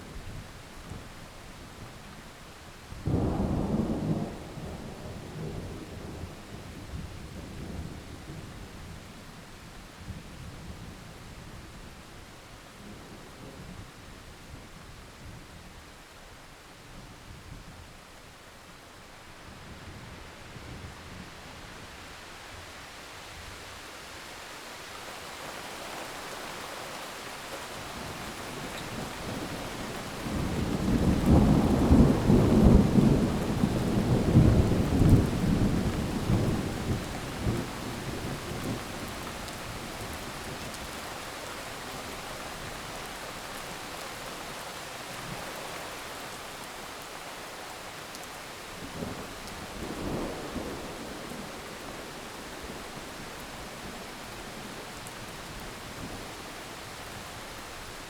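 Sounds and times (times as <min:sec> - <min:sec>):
heavy rain falling: 0:00.0 - 0:10.3, 0:19.1 - 0:58.0.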